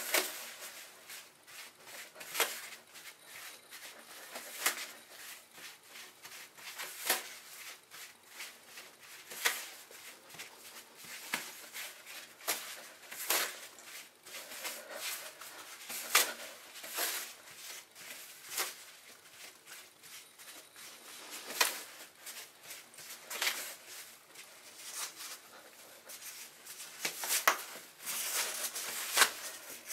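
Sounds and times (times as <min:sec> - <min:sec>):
toilet paper rustling and crinkling: 0:00.0 - 0:29.9.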